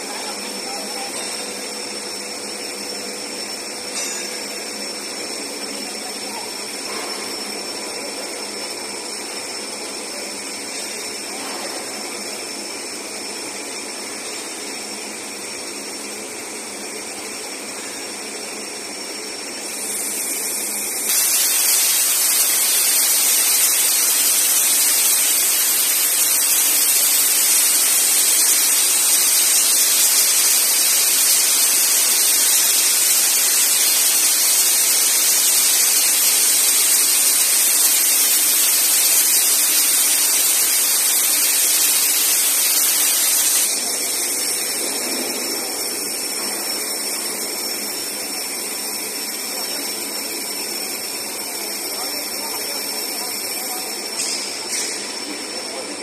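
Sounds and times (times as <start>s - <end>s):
cutting torch hissing: 0.0s - 56.0s.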